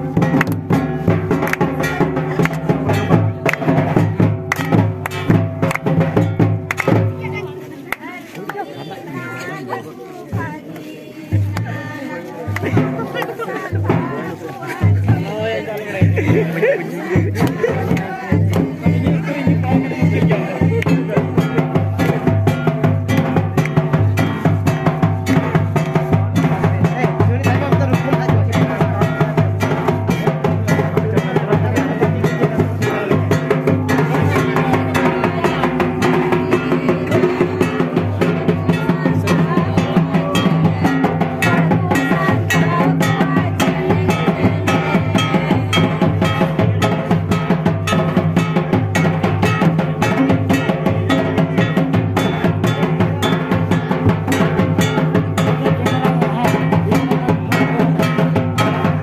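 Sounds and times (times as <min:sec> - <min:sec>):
hand drum strokes: 0:00.0 - 0:59.0.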